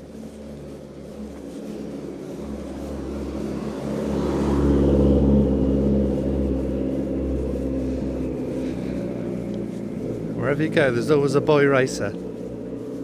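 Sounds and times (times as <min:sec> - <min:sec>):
loud car driving past: 0:00.0 - 0:13.0.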